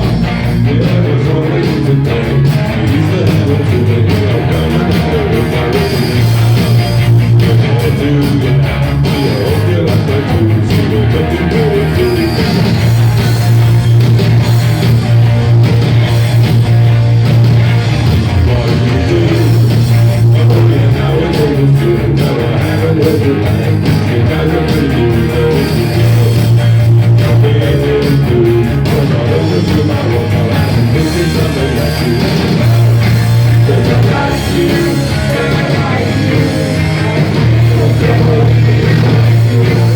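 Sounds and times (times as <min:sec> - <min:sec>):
deep held bass notes: 0:00.0 - 0:39.9
guitar: 0:00.0 - 0:39.9
live rock band music: 0:00.0 - 0:39.9.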